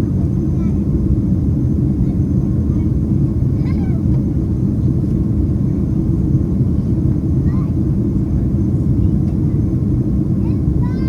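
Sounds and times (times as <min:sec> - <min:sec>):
jet engines and airflow in cabin: 0:00.0 - 0:11.0.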